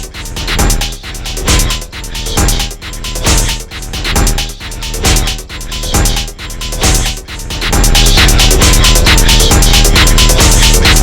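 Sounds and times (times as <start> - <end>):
phonk music with deep bass: 0.0 - 11.0
rapid high ticking: 0.0 - 11.0.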